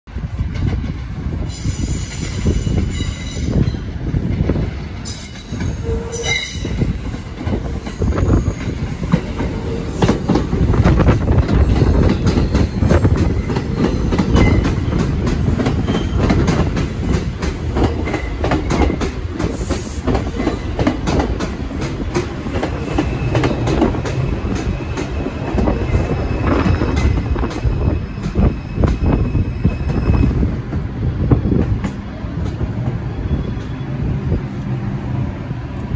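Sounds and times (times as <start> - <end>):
subway train rumble: 0.1 - 35.9.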